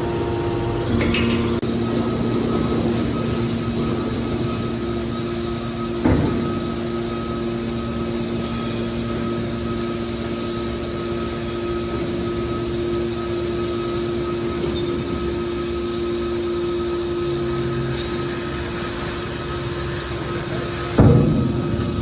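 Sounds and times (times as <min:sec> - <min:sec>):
machine motor hum: 0:00.0 - 0:22.0.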